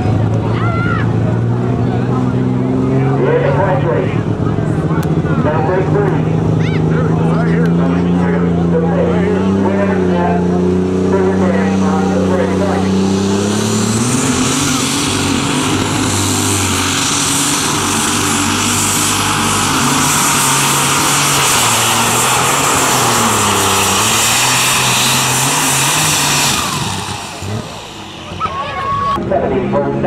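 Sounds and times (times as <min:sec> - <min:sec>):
tractor engine high-revving: 0:00.0 - 0:30.0.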